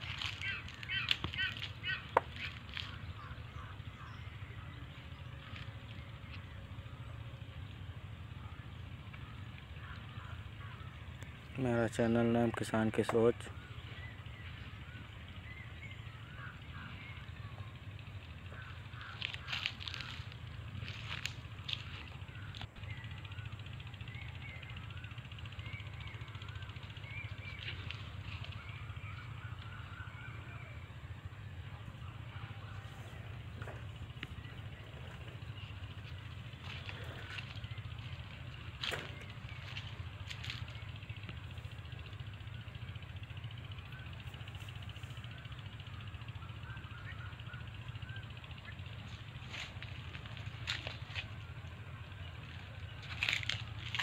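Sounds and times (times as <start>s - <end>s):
steady low rumble: 0.0s - 11.6s, 13.4s - 54.0s
insects buzzing: 0.0s - 30.1s, 32.1s - 47.2s, 48.6s - 54.0s
birds calling: 0.0s - 54.0s.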